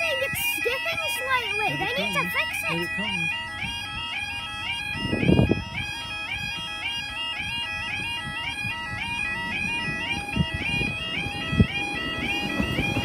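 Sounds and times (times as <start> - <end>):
level crossing yodel alarm: 0.0 - 13.0.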